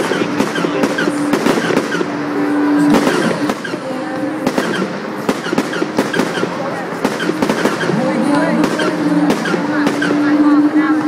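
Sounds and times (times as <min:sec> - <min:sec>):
crowd chatter: 0:00.0 - 0:11.0
fireworks bangs and crackles: 0:00.0 - 0:11.0.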